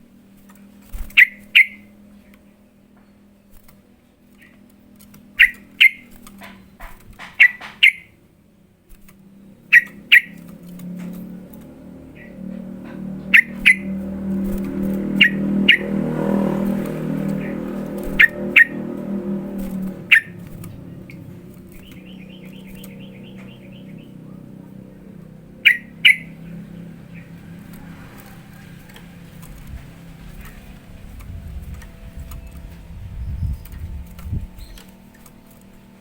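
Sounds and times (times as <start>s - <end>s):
low steady hum: 0.0s - 36.0s
bulbul calling sharp notes: 1.0s - 2.0s, 4.4s - 8.2s, 9.6s - 10.8s, 11.4s - 36.0s.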